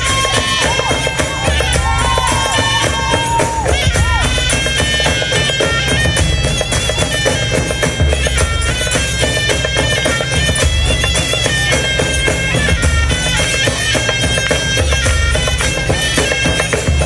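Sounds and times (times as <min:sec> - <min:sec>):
fast hand-drum beats: 0:00.0 - 0:17.0.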